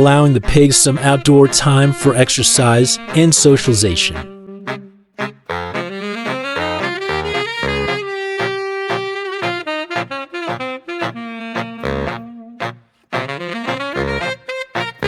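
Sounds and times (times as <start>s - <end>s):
walking bass line: 0.0s - 10.1s, 11.0s - 15.0s
jazz saxophone: 0.0s - 15.0s.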